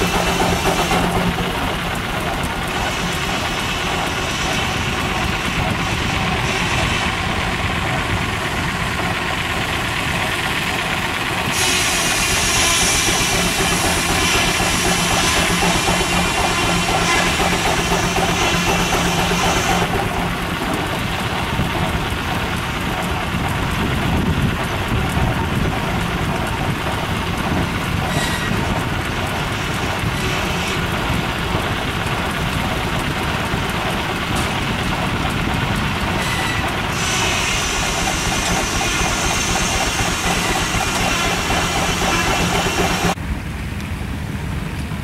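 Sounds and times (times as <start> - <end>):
flat belt driving: 0.0 - 43.2
steam traction engine running: 0.0 - 45.0.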